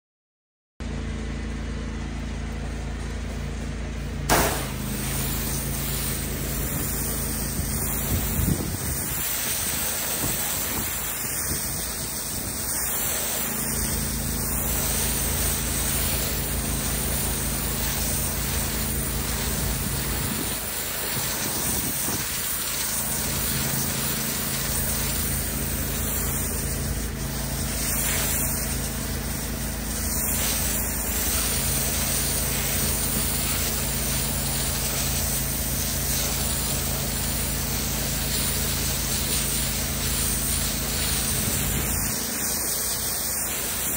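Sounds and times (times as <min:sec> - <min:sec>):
pressure washer machine hum: 0:00.8 - 0:43.9
water jet spattering on brick: 0:04.3 - 0:43.9.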